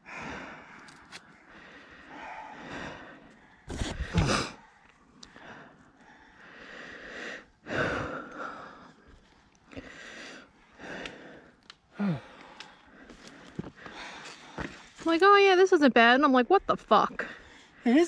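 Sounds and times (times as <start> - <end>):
person breathing hard: 0.0 - 14.9.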